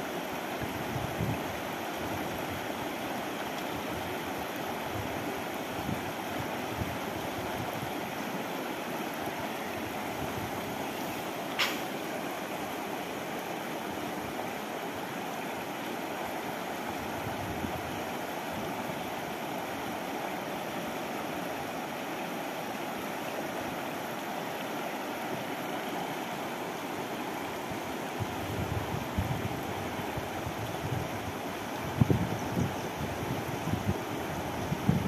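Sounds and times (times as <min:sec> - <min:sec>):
river running over stones: 0:00.0 - 0:35.0.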